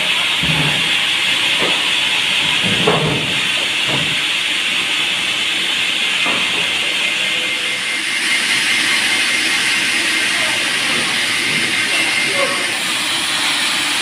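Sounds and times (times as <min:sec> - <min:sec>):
band saw running with loud hiss: 0:00.0 - 0:14.0.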